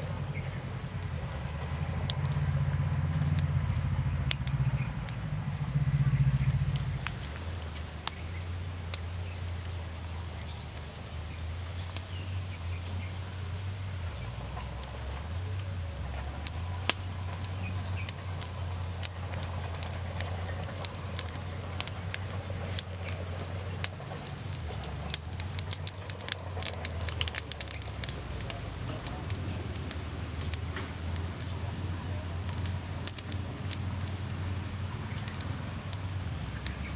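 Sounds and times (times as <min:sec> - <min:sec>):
steady low rumble: 0:00.0 - 0:36.9
wood fire crackling and popping: 0:00.0 - 0:36.9.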